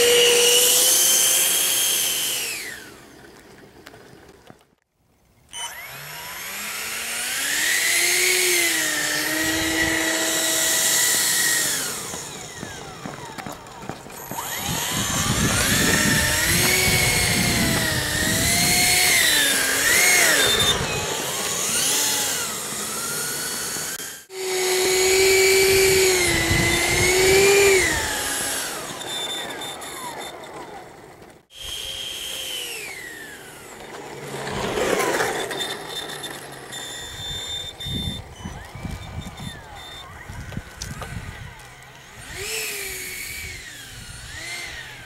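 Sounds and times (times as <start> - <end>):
electric ducted fan whining: 0.0 - 3.8, 5.5 - 45.0.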